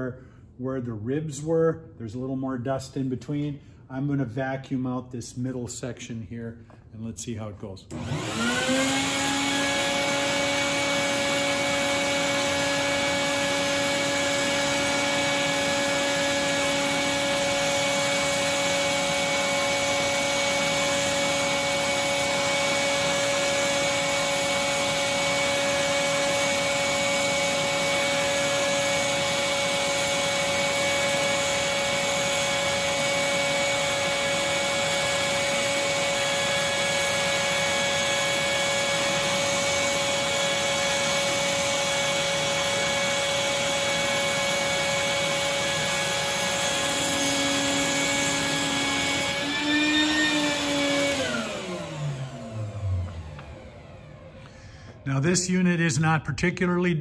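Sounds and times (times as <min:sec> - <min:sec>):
shop vac running: 0:05.2 - 0:57.0
motor whine spinning down: 0:07.9 - 0:55.1.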